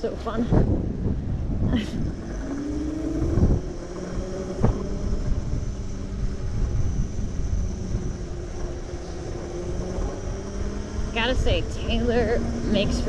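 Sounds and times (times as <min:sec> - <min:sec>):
road rumble: 0:00.0 - 0:13.0
wind on microphone: 0:00.0 - 0:13.0
electric motor whining: 0:00.7 - 0:13.0.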